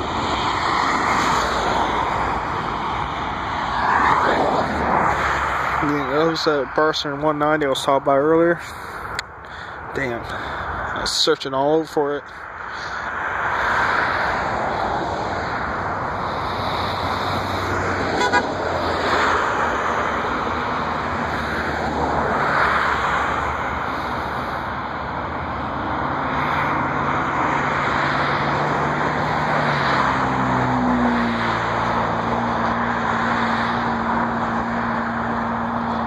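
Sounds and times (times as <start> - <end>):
cars passing: 0.0 - 36.0
road traffic noise: 0.0 - 36.0.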